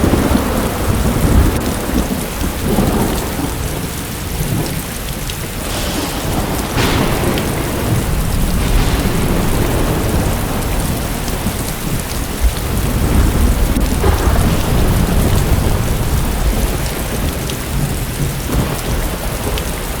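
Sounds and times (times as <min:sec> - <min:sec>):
heavy rain pouring: 0:00.0 - 0:20.0
low rumble of thunder: 0:00.0 - 0:20.0.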